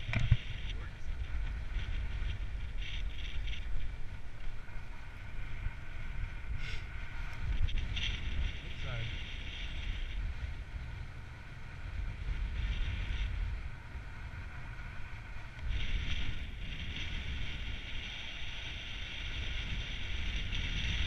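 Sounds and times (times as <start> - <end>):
wind buffeting microphone: 0.0 - 21.0
wind hiss: 0.0 - 21.0.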